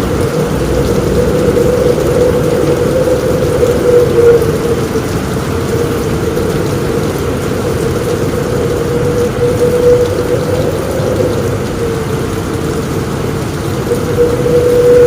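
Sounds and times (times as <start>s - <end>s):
heavy rain on a roof: 0.0s - 15.0s
low rumble: 0.0s - 15.0s.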